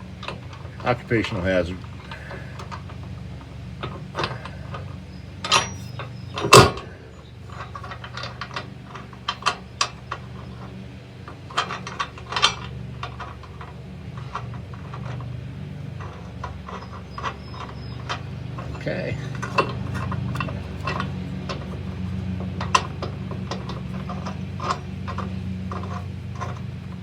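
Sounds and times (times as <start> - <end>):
metal tools clinking and knocking: 0.0 - 27.0
steady low hum: 0.0 - 27.0.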